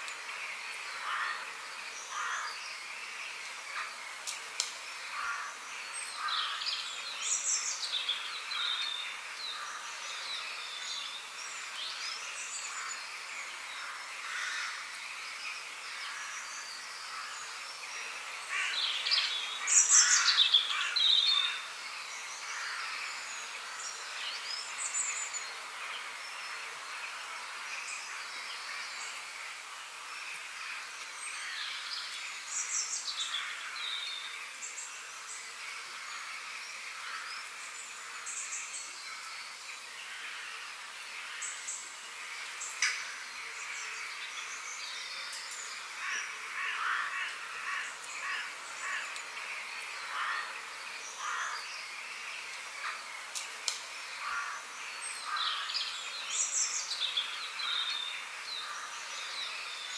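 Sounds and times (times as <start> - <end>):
background hiss: 0.0 - 59.9
birds chirping and trilling: 0.0 - 59.9.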